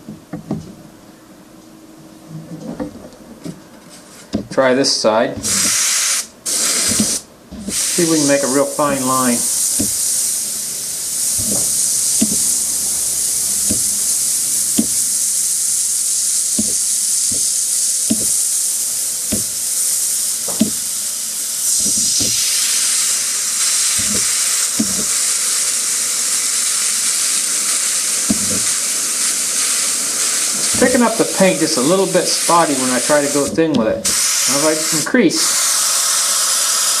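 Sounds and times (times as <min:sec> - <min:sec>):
airbrush hissing: 0:05.4 - 0:37.0.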